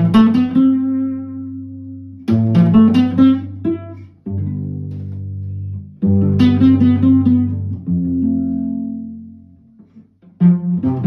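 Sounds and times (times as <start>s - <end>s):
cello pizzicato chords: 0.0s - 11.0s.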